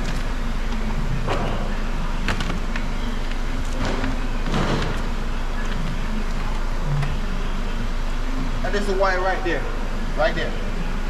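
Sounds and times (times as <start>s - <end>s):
low workshop hum: 0.0s - 11.0s.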